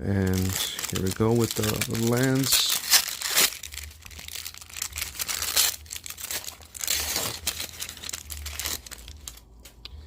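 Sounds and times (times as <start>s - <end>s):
plastic wrapping and cards crinkling: 0.0s - 10.0s.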